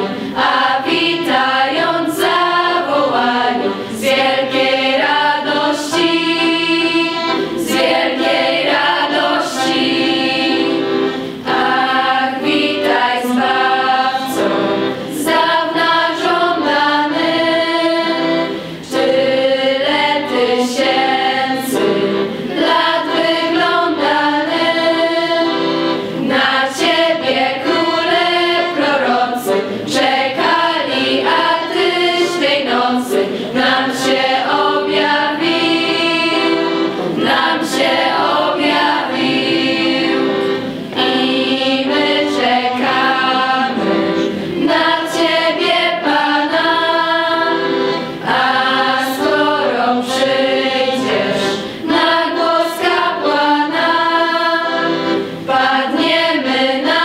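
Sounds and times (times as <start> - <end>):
choir singing a carol: 0.0 - 57.0.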